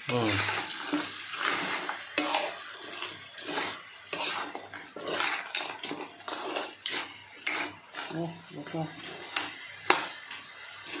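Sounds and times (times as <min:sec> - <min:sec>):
metal spatula scraping a wok: 0:00.0 - 0:11.0.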